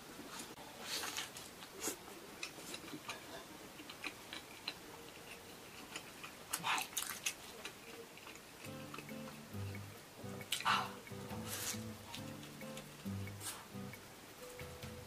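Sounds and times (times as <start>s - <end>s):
mouth chewing and smacking: 0.8s - 13.7s.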